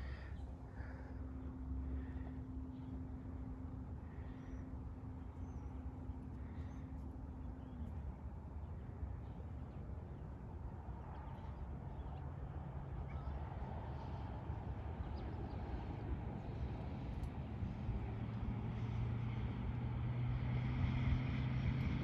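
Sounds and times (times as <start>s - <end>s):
engine-like hum: 0.0s - 22.0s
lower hum: 0.0s - 22.0s.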